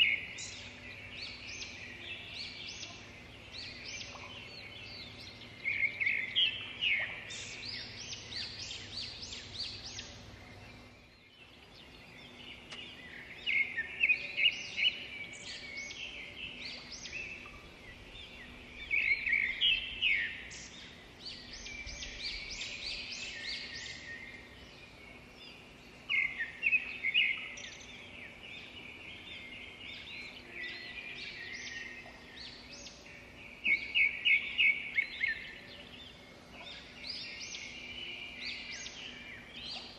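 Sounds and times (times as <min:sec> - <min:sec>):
outdoor background noise: 0:00.0 - 0:39.9
small birds chirping: 0:00.0 - 0:39.9.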